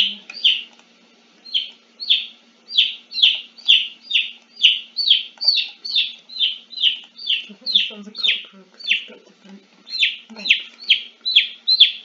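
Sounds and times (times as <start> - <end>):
bird chirping: 0.0 - 0.8, 1.4 - 9.2, 9.8 - 12.0.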